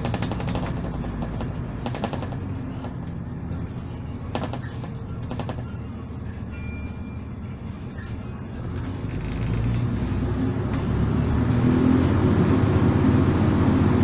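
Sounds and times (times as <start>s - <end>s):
bus bodywork rattling: 0.0s - 14.0s
diesel bus engine rumble: 0.0s - 14.0s.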